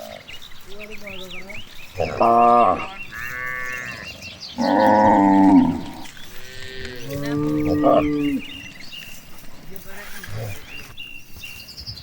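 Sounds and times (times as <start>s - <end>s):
cattle mooing: 0.0s - 10.9s.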